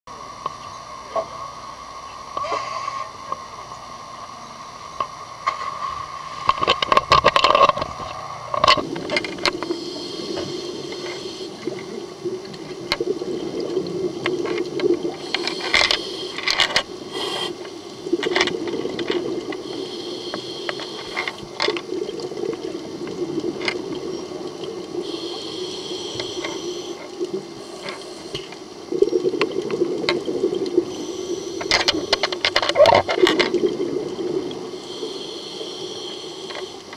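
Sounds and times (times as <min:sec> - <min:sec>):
steady low hum: 0:00.1 - 0:36.9.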